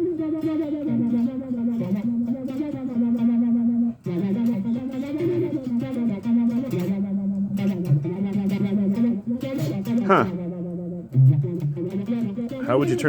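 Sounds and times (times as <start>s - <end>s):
electric guitar with string bends: 0.0s - 13.0s.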